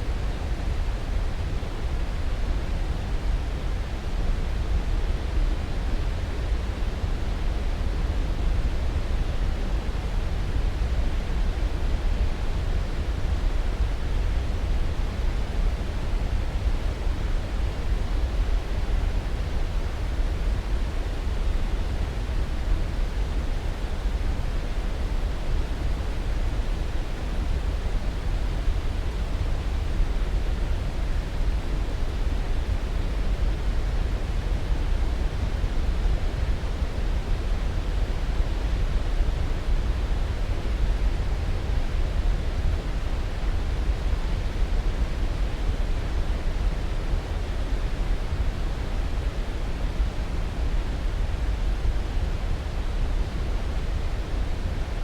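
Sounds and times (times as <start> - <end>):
white noise: 0.0 - 55.0.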